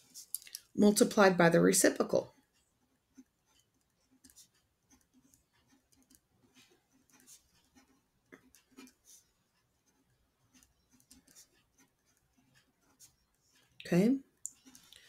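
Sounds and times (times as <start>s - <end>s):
pen scratching on paper: 1.2s - 13.8s, 14.4s - 14.9s.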